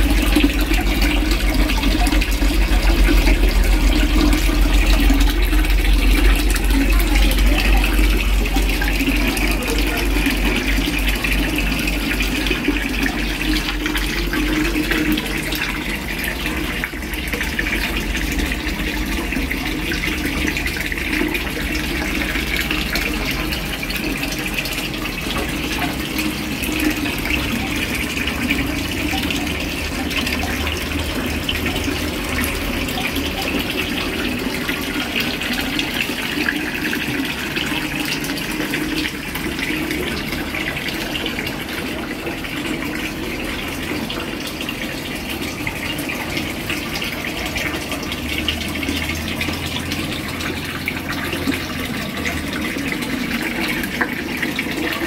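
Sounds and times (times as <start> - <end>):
water trickling into pond: 0.0 - 55.0.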